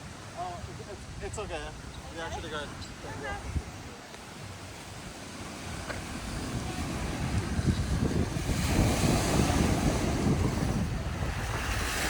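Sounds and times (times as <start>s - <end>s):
lake water washing: 0.0s - 12.0s
wind buffeting microphone: 0.0s - 12.0s.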